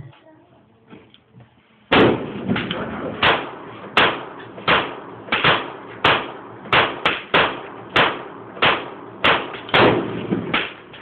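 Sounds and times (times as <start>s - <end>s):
gunshots with echo: 1.9s - 11.0s.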